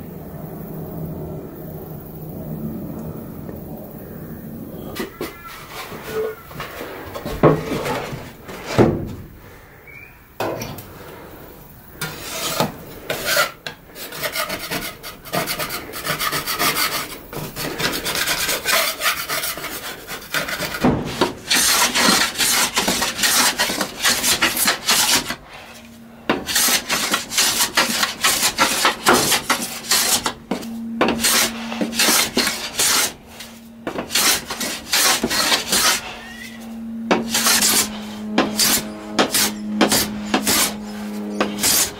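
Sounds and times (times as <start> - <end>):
hand plane scraping wood: 5.0 - 9.0, 12.0 - 41.9.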